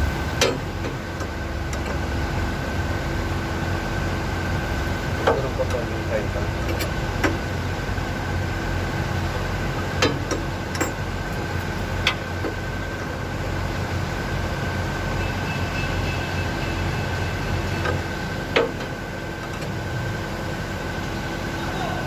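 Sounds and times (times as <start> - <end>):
machinery hum with high whine: 0.0 - 22.0.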